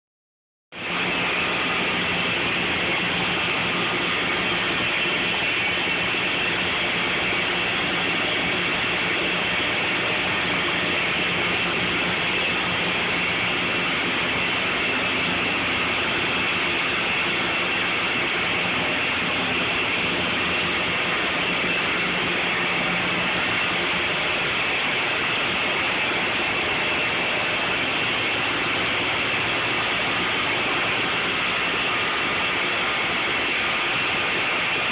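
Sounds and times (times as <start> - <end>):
mill machinery din: 0.8 - 34.9.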